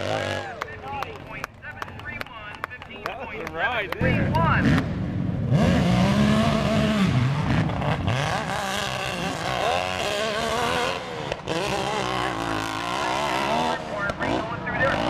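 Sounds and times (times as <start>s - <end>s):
motorcycle engine revving: 0.0s - 1.5s, 4.0s - 15.0s.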